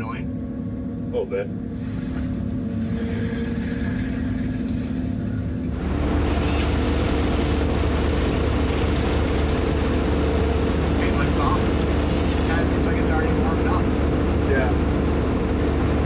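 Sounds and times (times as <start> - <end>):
diesel crane engine running: 0.0 - 16.0.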